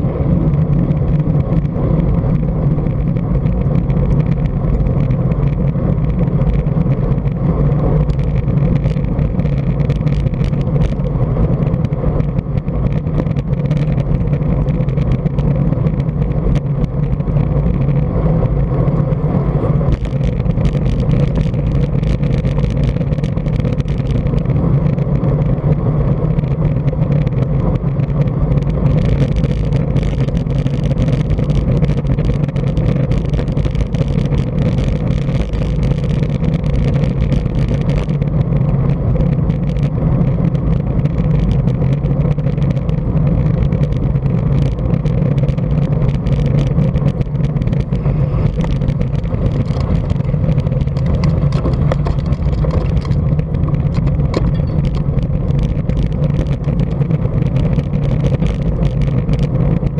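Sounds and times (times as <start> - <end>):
small ticks from road: 0.0 - 59.9
tyres humming on rough road: 0.0 - 59.9
wind buffeting microphone: 0.0 - 59.9.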